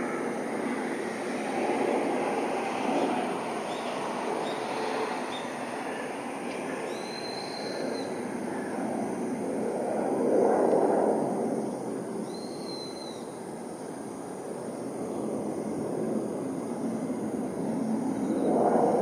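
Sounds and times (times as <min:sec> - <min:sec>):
jet engine rushing: 0:00.0 - 0:12.3, 0:13.2 - 0:19.0.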